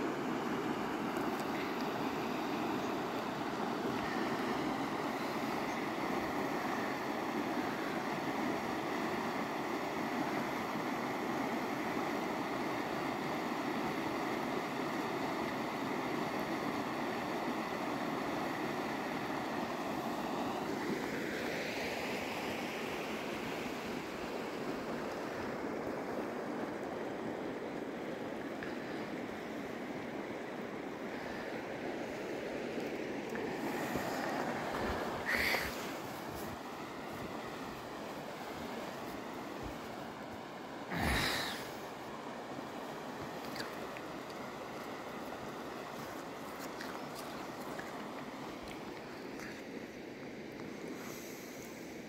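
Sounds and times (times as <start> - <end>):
river rushing over stones: 0.0 - 51.0.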